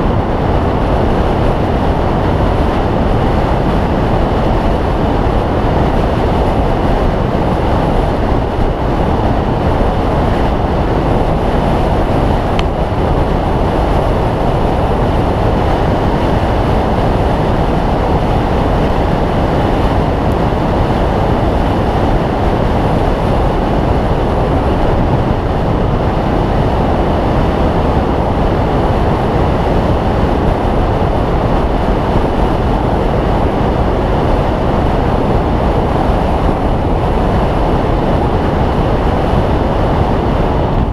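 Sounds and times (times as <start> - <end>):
bike road noise: 0.0 - 40.9
wind rush on microphone: 0.0 - 40.9.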